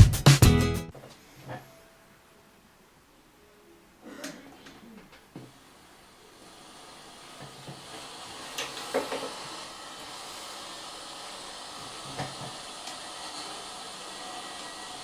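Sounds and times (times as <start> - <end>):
steady hiss: 1.0 - 15.0.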